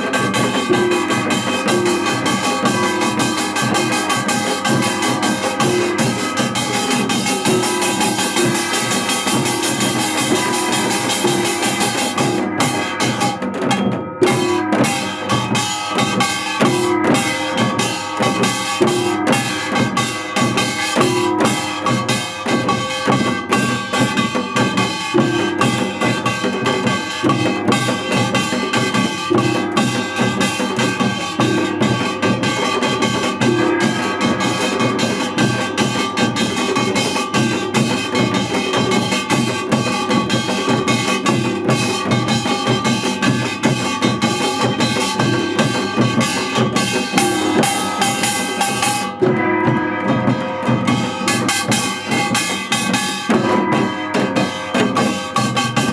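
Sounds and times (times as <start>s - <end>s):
drum kit beat: 0.0s - 55.9s
pitched instruments: 0.0s - 55.9s.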